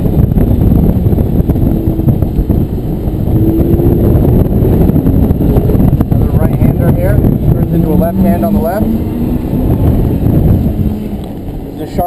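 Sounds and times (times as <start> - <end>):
sports car engine running: 0.0 - 12.0
wind rumbling on microphone: 0.0 - 12.0.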